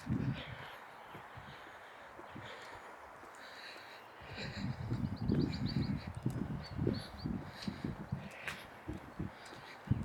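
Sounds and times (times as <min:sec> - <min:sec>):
faint town ambience: 0:00.0 - 0:10.0.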